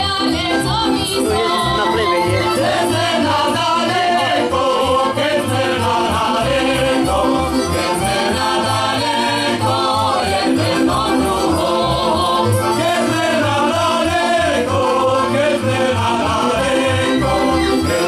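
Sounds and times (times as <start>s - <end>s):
group singing folk song: 0.0s - 18.0s
instrumental accompaniment with bass beat: 0.0s - 18.0s.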